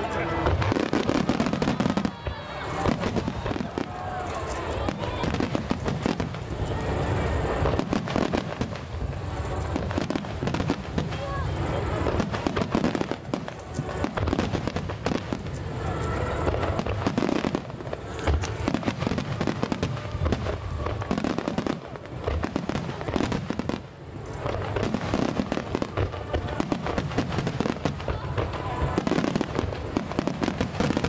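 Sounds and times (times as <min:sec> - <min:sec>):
firework shells bursting with crackling: 0:00.0 - 0:31.0.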